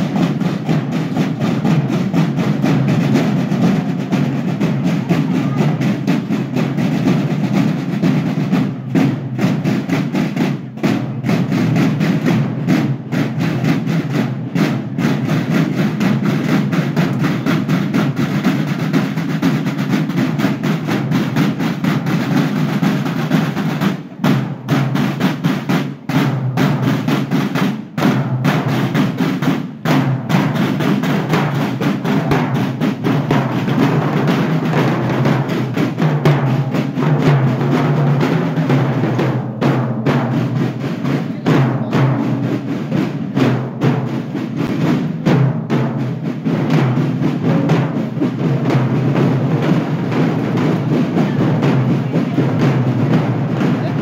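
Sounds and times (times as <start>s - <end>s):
snare drums marching cadence: 0.0s - 54.0s.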